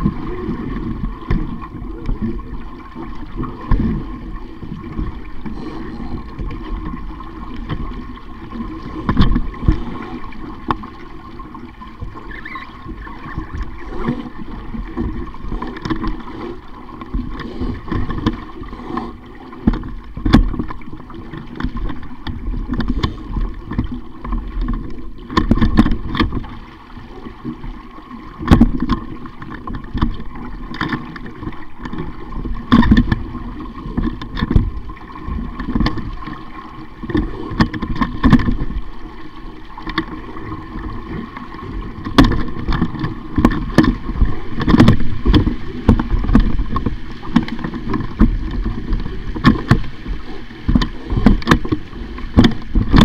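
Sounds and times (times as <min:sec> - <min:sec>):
water splashing against hull: 0:00.0 - 0:53.0.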